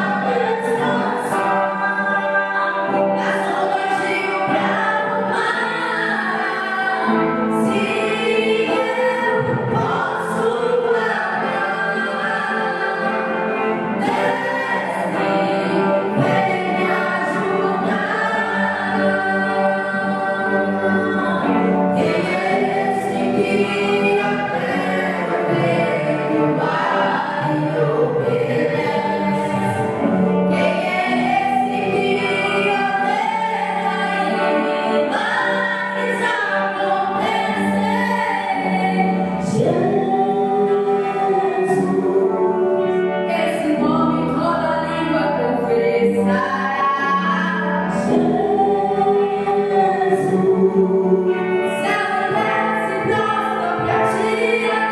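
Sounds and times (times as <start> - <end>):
choir singing gospel song: 0.0 - 54.9
musical accompaniment: 0.0 - 54.9.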